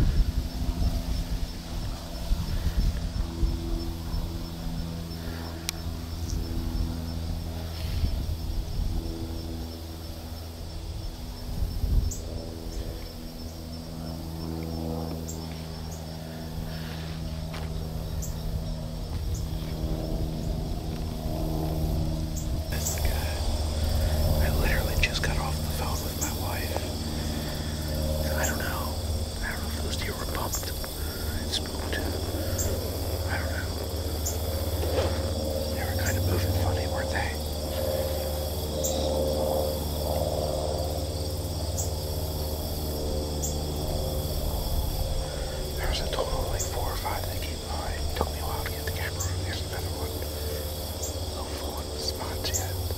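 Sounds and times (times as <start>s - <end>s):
constant low rumble: 0.0s - 52.9s
crickets and insects chirping: 0.0s - 52.9s
low engine hum: 0.0s - 52.9s.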